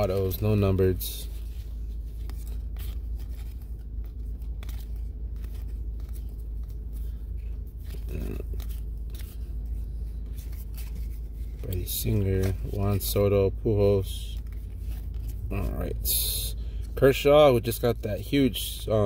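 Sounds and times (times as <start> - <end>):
cards sliding and clicking: 0.0 - 13.3, 14.4 - 17.2
low hum: 0.0 - 19.0.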